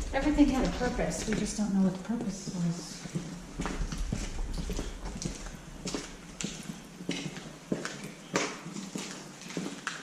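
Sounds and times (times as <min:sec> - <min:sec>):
footsteps on hard floor: 0:00.0 - 0:10.0.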